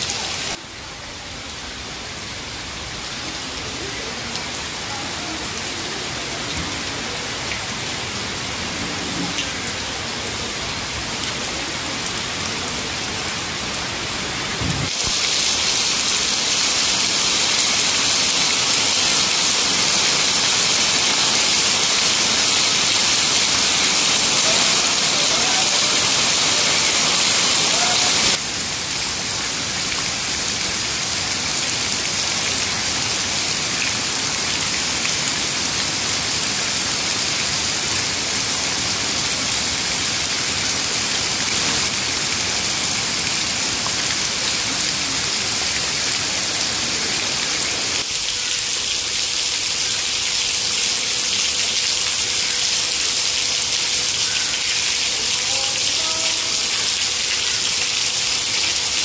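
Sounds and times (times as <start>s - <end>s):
rain falling through tree leaves: 0.0s - 59.0s
heavy rain splashing into puddle: 1.3s - 59.0s.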